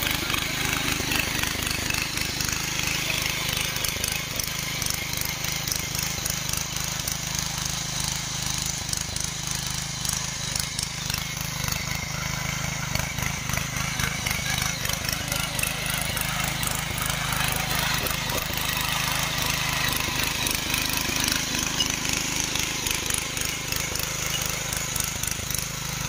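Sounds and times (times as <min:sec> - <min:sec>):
small petrol engine running: 0:00.0 - 0:26.0
tines churning soil: 0:00.0 - 0:26.0.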